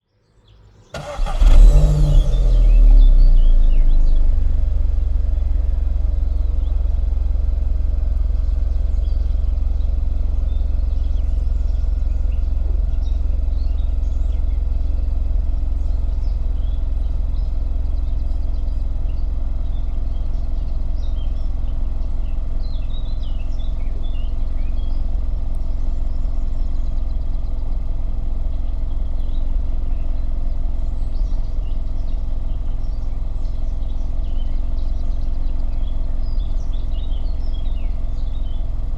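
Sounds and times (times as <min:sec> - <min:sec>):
birds chirping: 0:00.3 - 0:38.9
car engine idling: 0:00.9 - 0:38.9.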